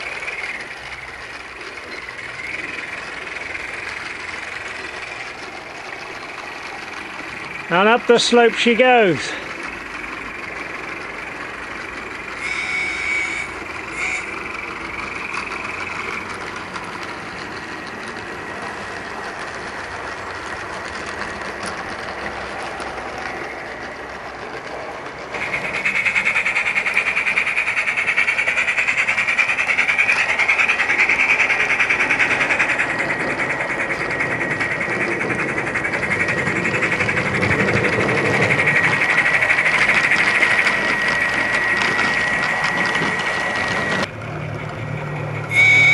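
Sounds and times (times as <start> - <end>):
model train motor and wheels: 0.0 - 45.9
steam locomotive sound from speaker: 0.0 - 45.9.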